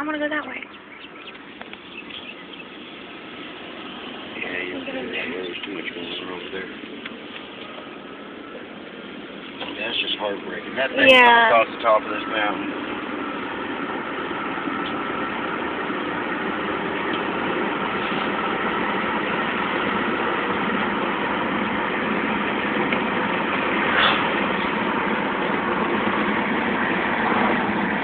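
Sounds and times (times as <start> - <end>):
car engine inside cabin: 0.0 - 28.0
road noise: 0.0 - 28.0.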